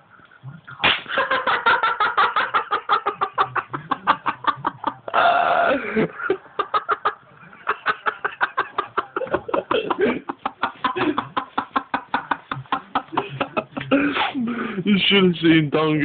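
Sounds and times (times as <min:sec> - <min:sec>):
young men laughing hard: 0:01.1 - 0:15.0.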